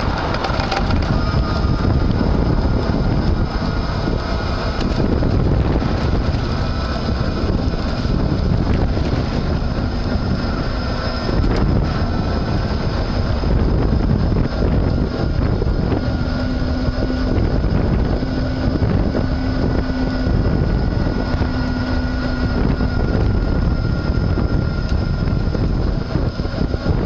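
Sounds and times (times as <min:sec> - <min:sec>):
bicycle hub motor whine: 0:00.0 - 0:27.0
wind noise on microphone: 0:00.0 - 0:27.0.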